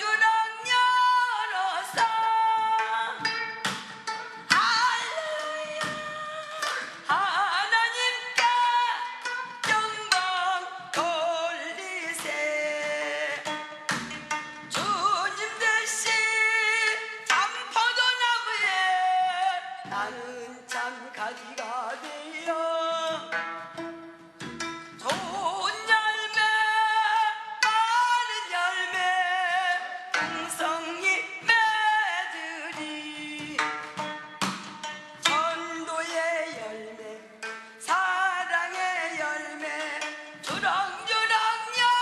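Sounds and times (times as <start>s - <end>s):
light percussion: 0.0s - 42.0s.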